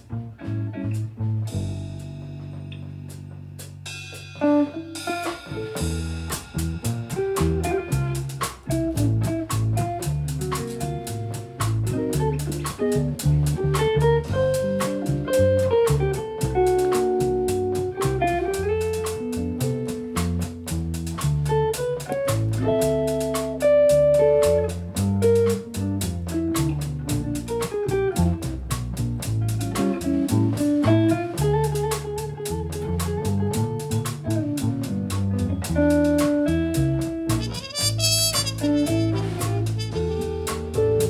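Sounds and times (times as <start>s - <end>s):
electric guitar: 0.0s - 3.4s, 4.4s - 41.0s
jazz quartet playing swing: 0.0s - 41.0s
walking upright bass: 0.0s - 41.0s.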